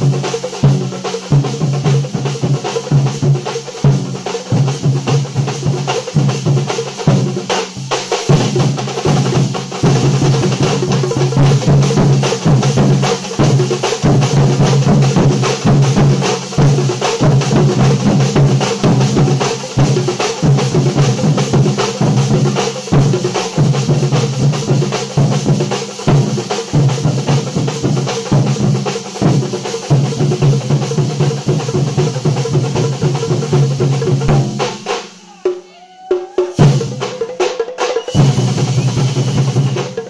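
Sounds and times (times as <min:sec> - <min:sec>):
drums beaten with sticks: 0:00.0 - 0:40.0.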